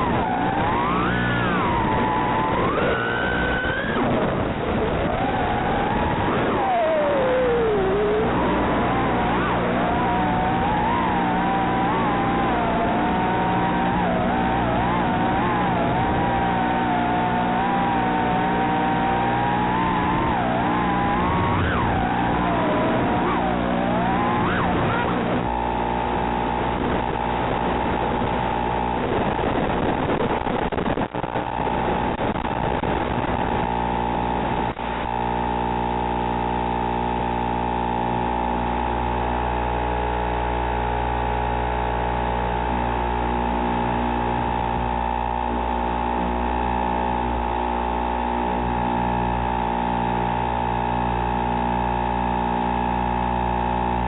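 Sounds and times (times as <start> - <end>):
electrical whine gliding in pitch: 0.0 - 54.0.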